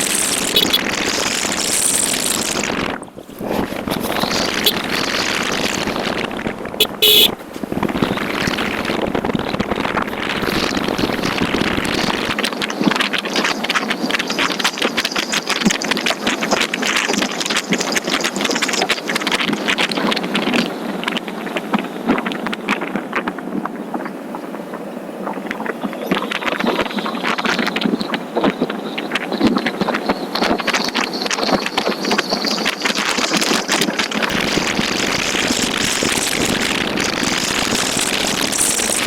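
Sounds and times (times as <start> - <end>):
motorcycle engine and road noise: 0.0 - 39.0
wind buffeting microphone: 0.0 - 39.0.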